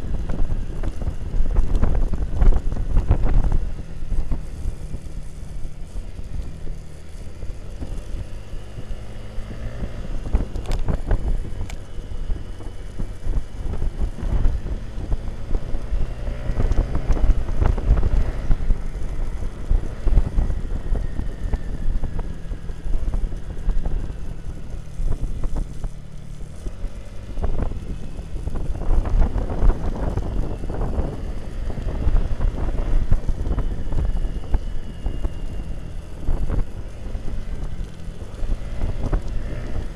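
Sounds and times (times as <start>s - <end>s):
wind buffeting microphone: 0.0s - 6.8s, 7.7s - 39.9s
motorcycle engine drone: 0.0s - 39.9s.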